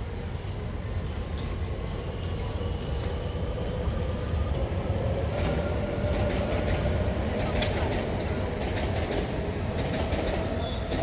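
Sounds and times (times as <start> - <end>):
train rumbling over a bridge: 0.0 - 11.0.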